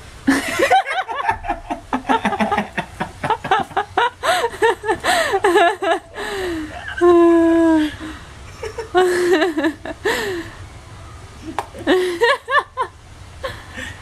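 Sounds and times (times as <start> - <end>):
people laughing: 0.3 - 10.4, 11.4 - 13.9.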